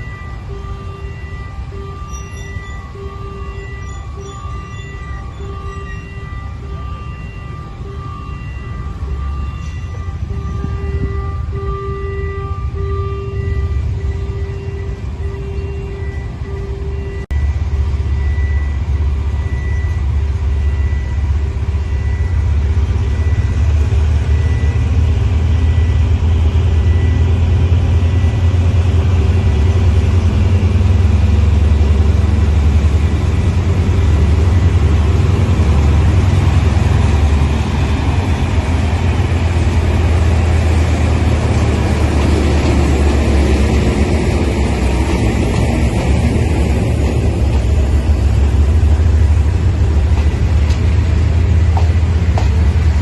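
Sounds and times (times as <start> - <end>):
locomotive engine rumbling: 0.0 - 53.0.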